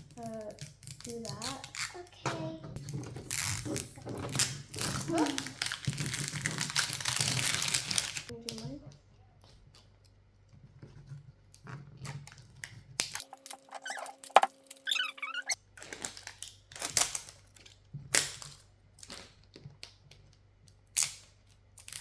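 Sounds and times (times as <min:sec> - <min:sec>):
plastic capsule rustling and crinkling: 0:02.8 - 0:08.8, 0:09.5 - 0:22.0.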